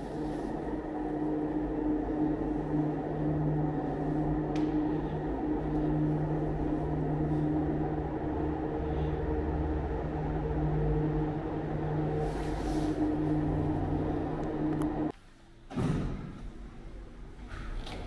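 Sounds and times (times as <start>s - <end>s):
low rumble: 0.0s - 15.1s
low mechanical hum: 0.0s - 18.0s.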